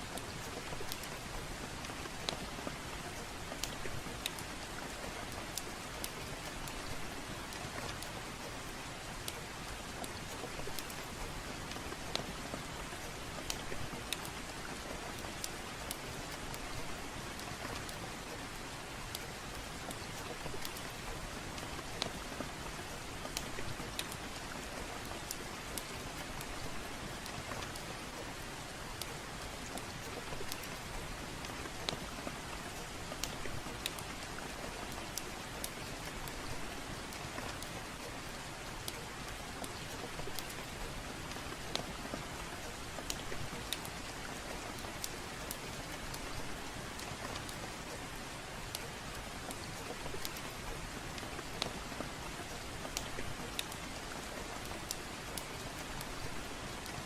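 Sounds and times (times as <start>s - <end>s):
steady rainfall: 0.0s - 57.0s
wood fire crackling: 0.1s - 57.0s.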